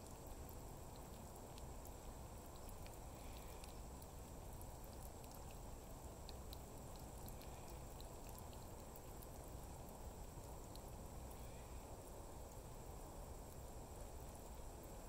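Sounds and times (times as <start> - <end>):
low steady outdoor rumble: 0.0 - 15.0
water ticking at drip emitter: 0.0 - 15.0.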